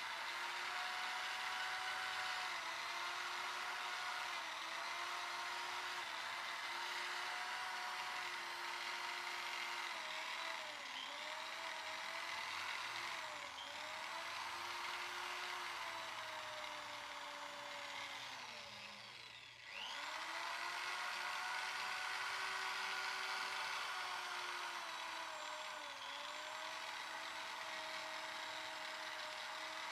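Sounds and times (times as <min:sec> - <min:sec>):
electric drill motor whine: 0:00.0 - 0:29.9.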